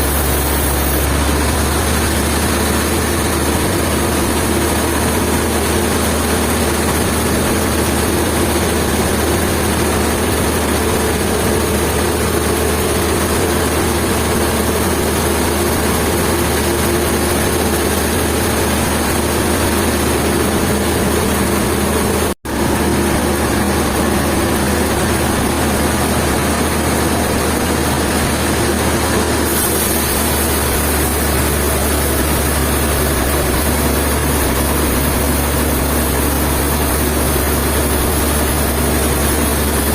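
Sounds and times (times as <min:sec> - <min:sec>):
heavy machinery running: 0:00.0 - 0:39.9.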